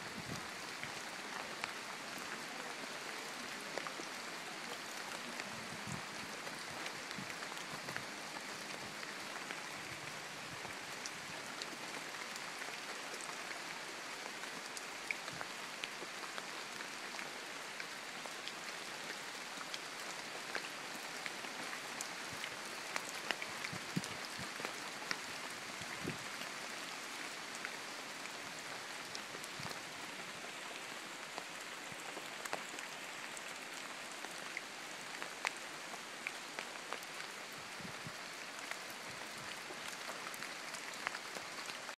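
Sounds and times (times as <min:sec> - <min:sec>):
rain pattering on foliage: 0:00.0 - 0:41.9.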